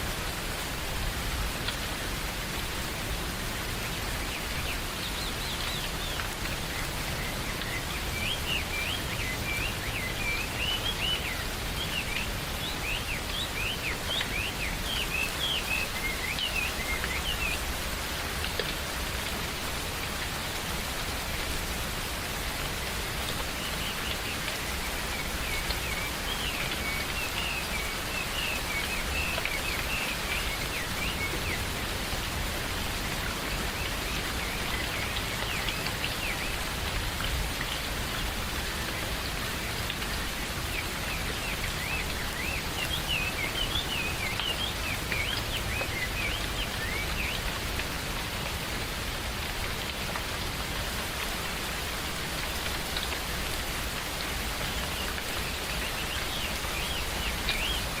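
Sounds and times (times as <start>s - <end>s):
steady rain in forest: 0.0s - 58.0s.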